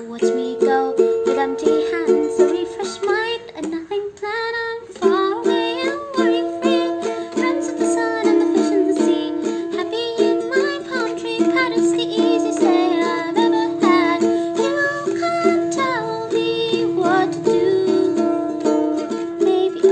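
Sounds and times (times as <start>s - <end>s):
ukulele strumming: 0.0s - 19.9s
woman singing: 0.0s - 19.9s.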